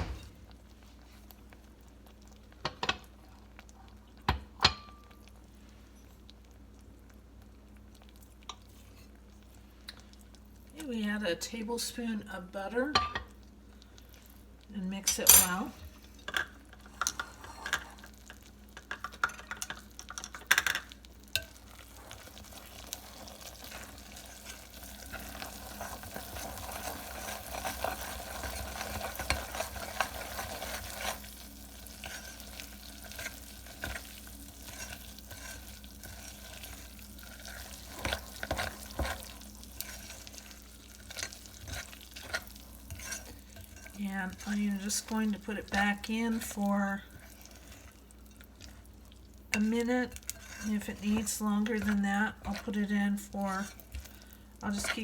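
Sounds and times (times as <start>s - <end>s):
syrup sizzling: 0.0s - 55.0s.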